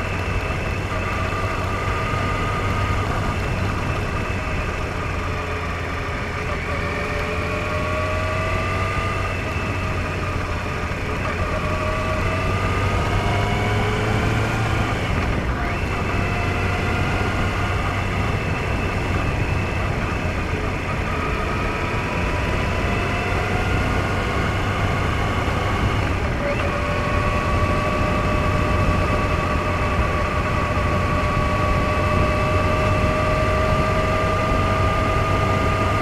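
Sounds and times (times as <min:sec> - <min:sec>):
vehicle engine accelerating: 0:00.0 - 0:36.0
wind and road noise: 0:00.0 - 0:36.0.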